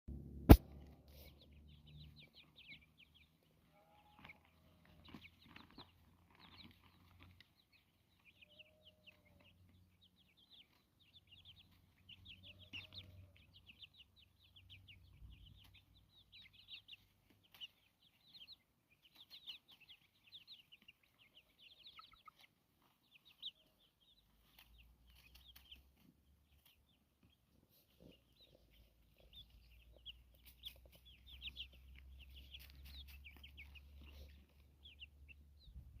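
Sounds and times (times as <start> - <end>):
chickens clucking: 0.5 - 36.0.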